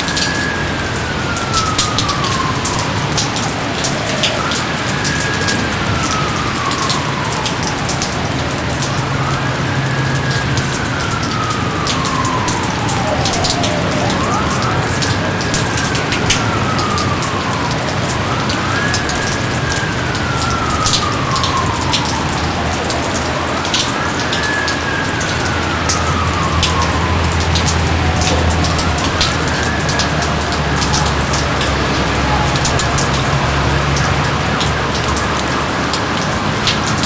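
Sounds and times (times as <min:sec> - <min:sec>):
close drips and splashes: 0:00.0 - 0:37.0
heavy rain: 0:00.0 - 0:37.0
wailing siren tone: 0:00.0 - 0:37.0.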